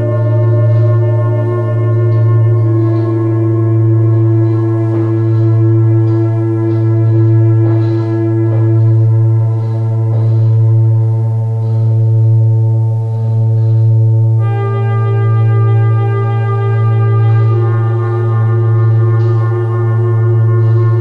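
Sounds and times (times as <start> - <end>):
soft synth notes: 0.0 - 21.0
steady low bass note: 0.0 - 21.0
synthesizer ambient pad chords: 0.0 - 21.0.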